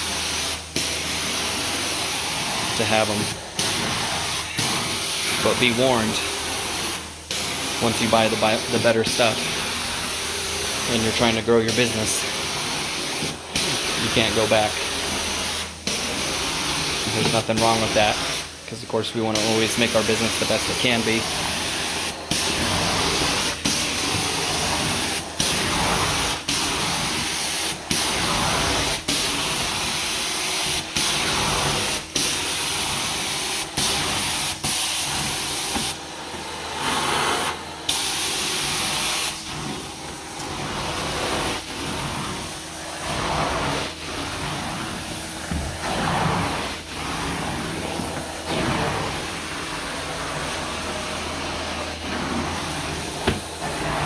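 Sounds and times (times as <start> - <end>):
carpet extraction wand suction: 0.0 - 54.0.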